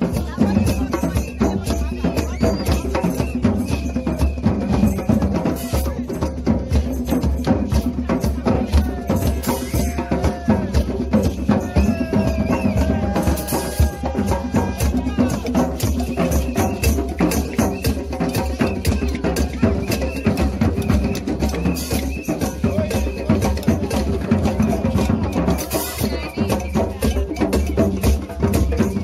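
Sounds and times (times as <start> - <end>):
crowd voices talking and calling: 0.0 - 29.0
hand drums beating: 0.0 - 29.0
snare drum played with sticks: 0.0 - 29.0.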